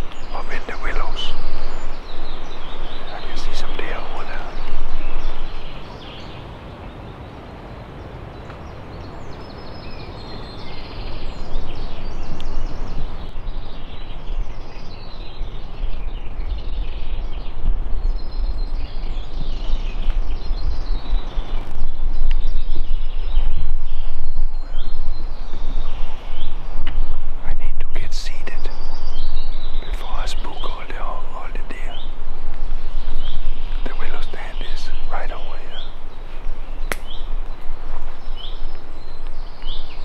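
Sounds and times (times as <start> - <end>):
small birds chirping: 0.0 - 40.0
strong wind through trees: 0.0 - 40.0
wind buffeting microphone: 0.0 - 40.0.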